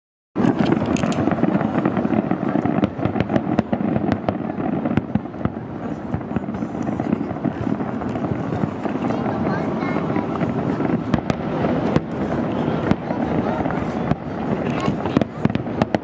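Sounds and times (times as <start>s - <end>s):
fireworks bangs and crackles: 0.4s - 16.0s
rumble of explosions: 0.4s - 16.0s.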